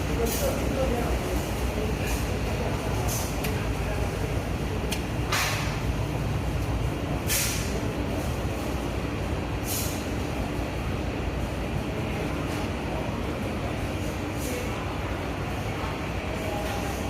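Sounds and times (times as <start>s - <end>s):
furnace low rumble: 0.0s - 17.0s.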